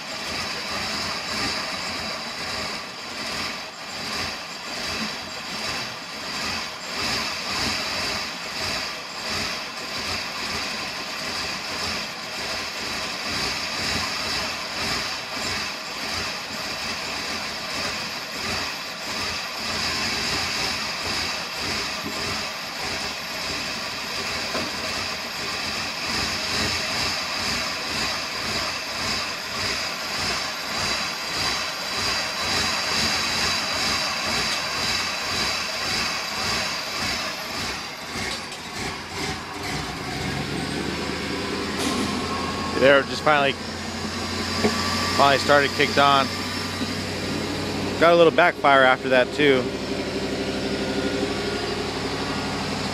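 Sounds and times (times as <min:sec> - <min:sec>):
engine cranking without starting: 0:00.0 - 0:52.9.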